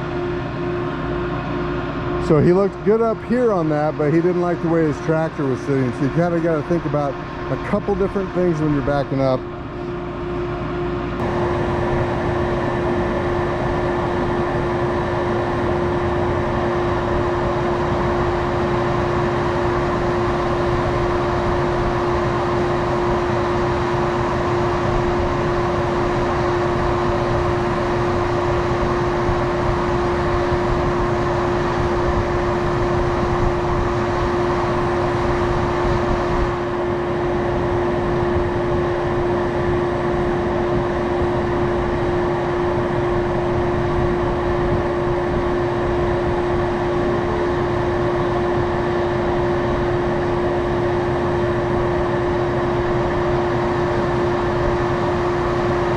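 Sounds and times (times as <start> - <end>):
constant mechanical hum: 0.0 - 55.9
farm machinery drone: 0.0 - 55.9.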